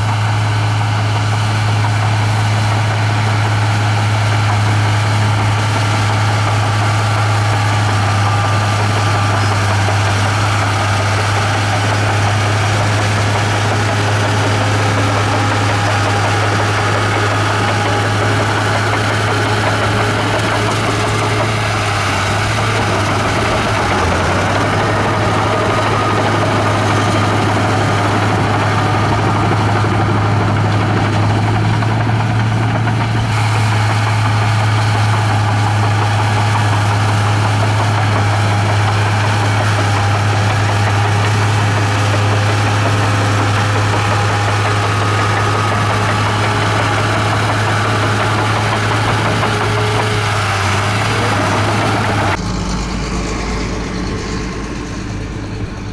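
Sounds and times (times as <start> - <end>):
bulldozer diesel engine droning: 0.0 - 55.9.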